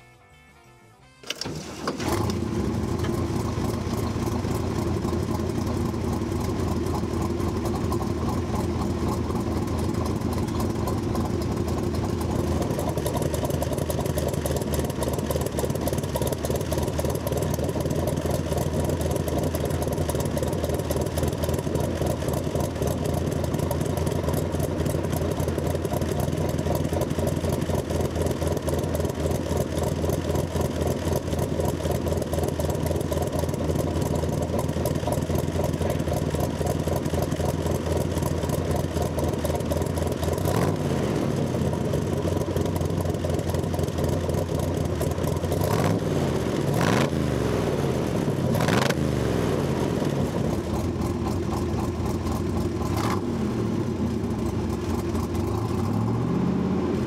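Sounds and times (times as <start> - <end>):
car engine idling: 1.4 - 57.0.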